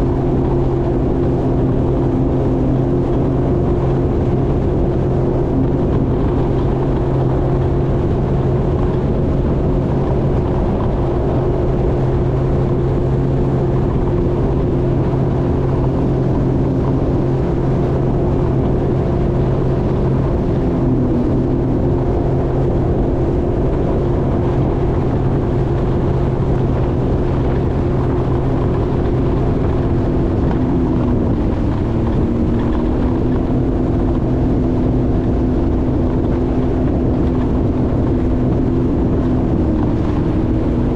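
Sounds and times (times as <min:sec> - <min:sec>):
jet ski engine: 0:00.0 - 0:40.9
water and wind noise: 0:00.0 - 0:40.9.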